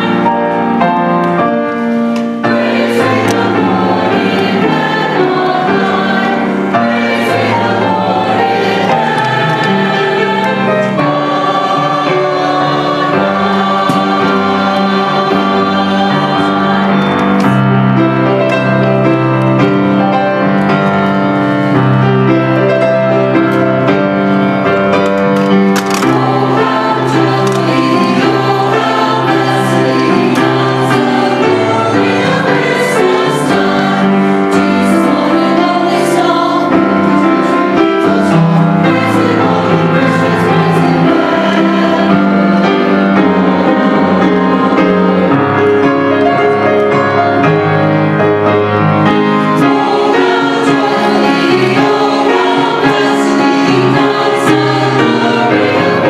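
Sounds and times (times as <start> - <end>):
grand piano: 0.0 - 56.0
mixed choir singing: 0.0 - 56.0.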